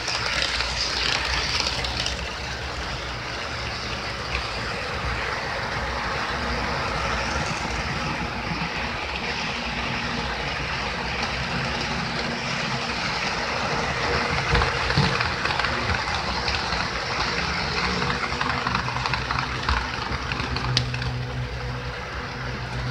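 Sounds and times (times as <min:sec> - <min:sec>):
train wheels rattling on rail joints: 0:00.0 - 0:22.9.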